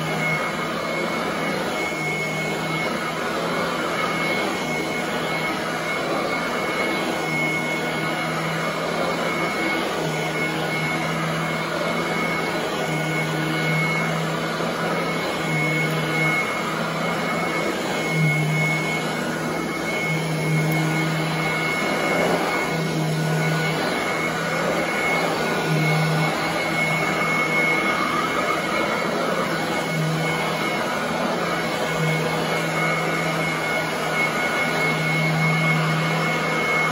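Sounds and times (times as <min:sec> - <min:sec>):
vacuum cleaner motor whine: 0:00.0 - 0:36.9.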